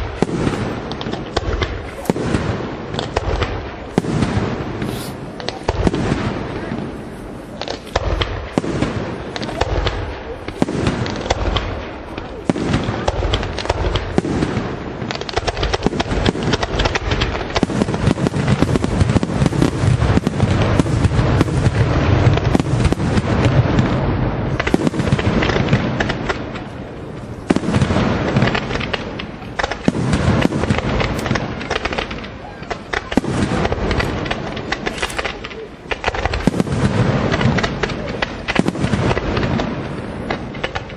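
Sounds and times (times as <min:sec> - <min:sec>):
fireworks bangs and crackle: 0:00.0 - 0:40.9.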